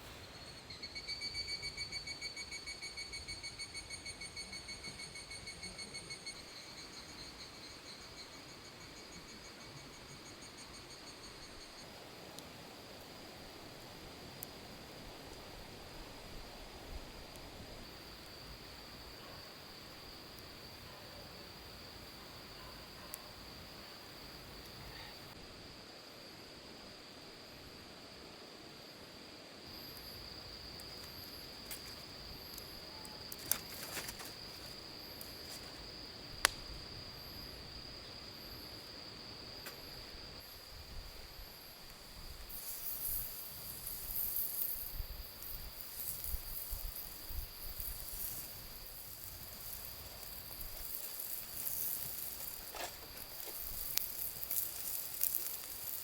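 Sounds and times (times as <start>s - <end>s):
crickets chirring: 0.0s - 56.0s
crackling sizzle: 6.3s - 25.4s, 29.6s - 56.0s.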